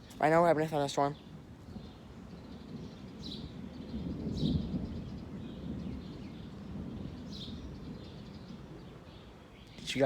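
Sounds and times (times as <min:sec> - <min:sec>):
distant thunder rumble: 0:01.2 - 0:10.0.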